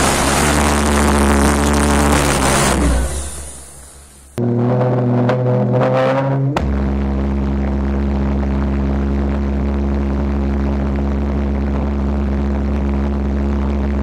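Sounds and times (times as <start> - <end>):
pulse jet engine drone: 0.0 - 14.0.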